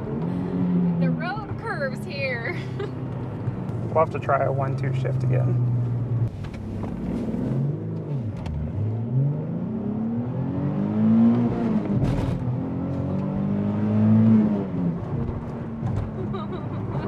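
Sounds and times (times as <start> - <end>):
car engine accelerating hard: 3.0 - 17.0.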